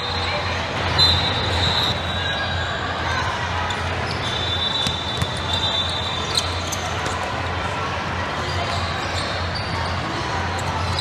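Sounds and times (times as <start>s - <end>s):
din and hum of large hall: 0.0s - 11.0s.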